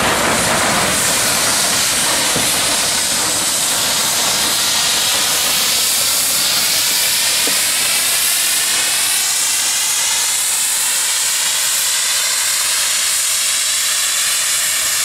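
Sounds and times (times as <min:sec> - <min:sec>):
loud hiss of steam: 0:00.0 - 0:15.0
steam locomotive moving slowly: 0:00.0 - 0:15.0.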